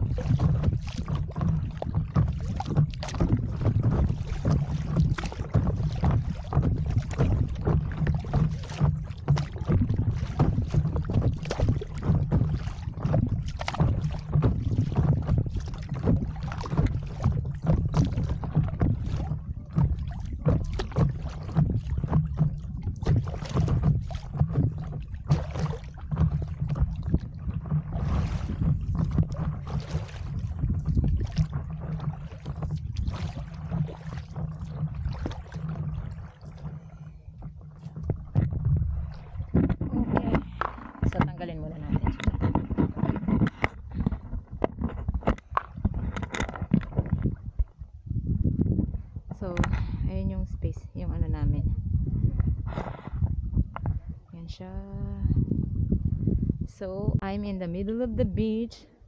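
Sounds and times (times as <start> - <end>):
water slapping against board: 0.0 - 47.8, 49.3 - 51.6
wind buffeting microphone: 0.0 - 59.0.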